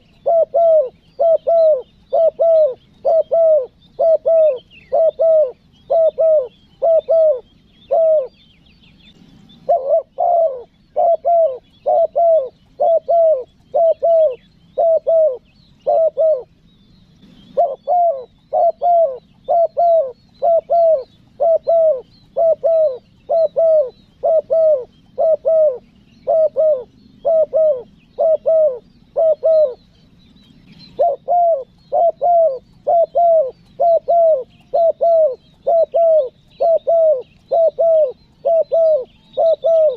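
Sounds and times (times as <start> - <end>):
dove cooing: 0.0 - 8.4, 9.1 - 39.9.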